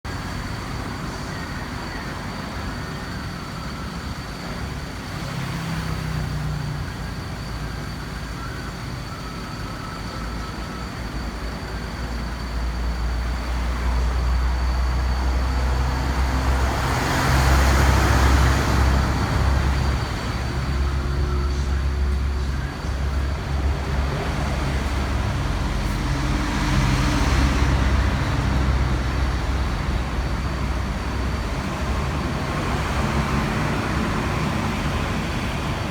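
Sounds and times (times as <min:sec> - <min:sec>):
traffic engine rumble: 0:00.0 - 0:35.9
vehicles passing: 0:00.1 - 0:35.9.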